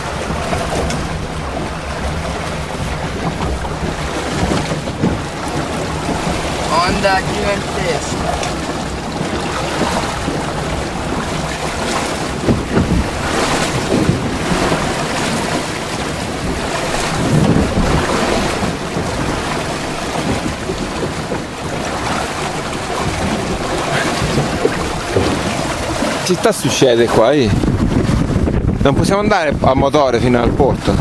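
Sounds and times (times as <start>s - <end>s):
water splashing along boat hull: 0.0s - 31.0s
wind buffeting microphone: 0.0s - 31.0s.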